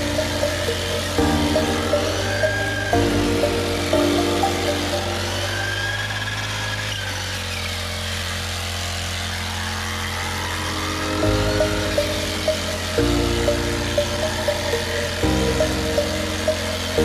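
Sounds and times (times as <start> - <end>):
high whine: 0.0 - 7.8, 9.8 - 17.0
small engine running: 0.0 - 17.0.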